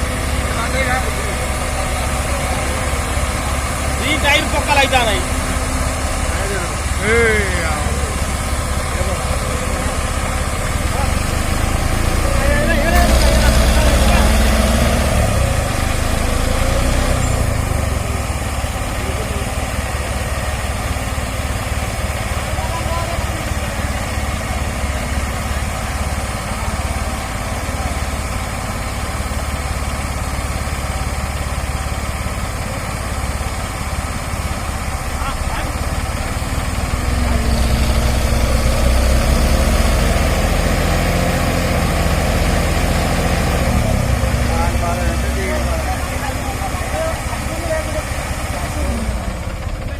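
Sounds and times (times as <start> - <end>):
diesel engine chugging: 0.0 - 49.9.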